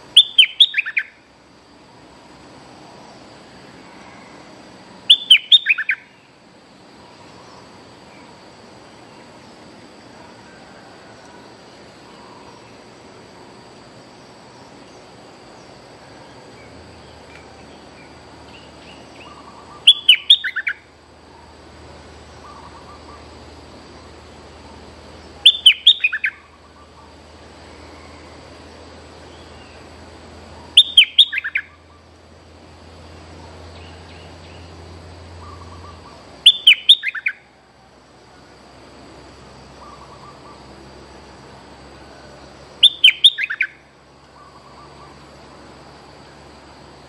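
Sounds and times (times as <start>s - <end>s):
high insect drone: 0.0s - 47.0s.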